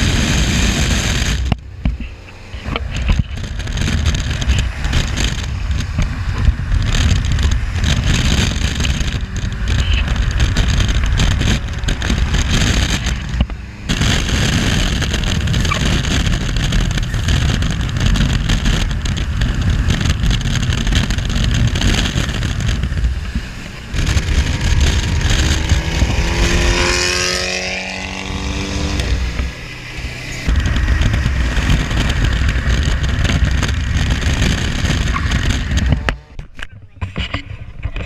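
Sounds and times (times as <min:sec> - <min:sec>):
car engine accelerating: 0:00.0 - 0:36.6
wind and road noise: 0:00.0 - 0:38.0.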